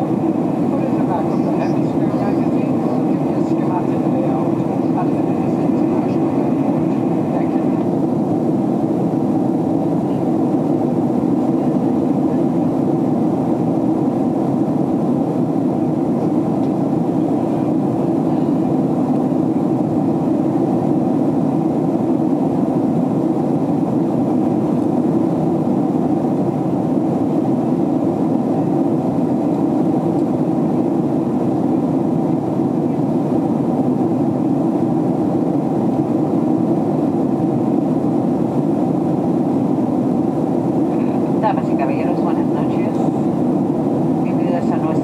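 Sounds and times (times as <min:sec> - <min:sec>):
airplane cabin engine drone: 0:00.0 - 0:45.0.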